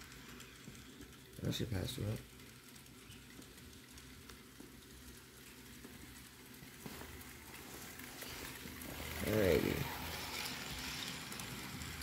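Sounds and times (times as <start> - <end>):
model train motor hum: 0.0 - 12.0.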